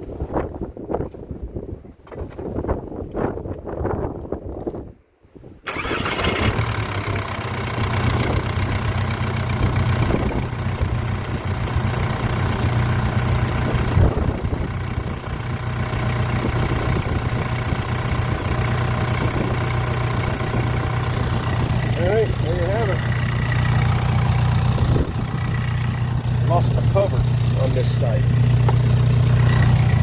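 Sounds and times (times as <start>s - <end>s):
diesel engine starting: 5.6s - 30.0s
diesel engine idling: 5.7s - 30.0s.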